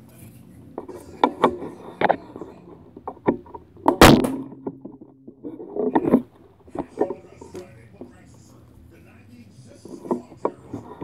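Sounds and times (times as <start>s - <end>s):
low ringing hum: 0.0s - 11.0s.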